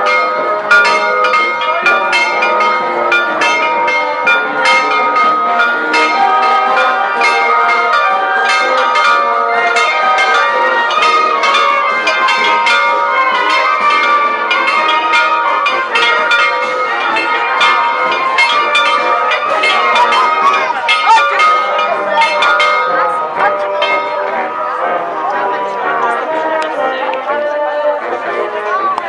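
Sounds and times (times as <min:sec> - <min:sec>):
peal of bells ringing: 0:00.0 - 0:29.0.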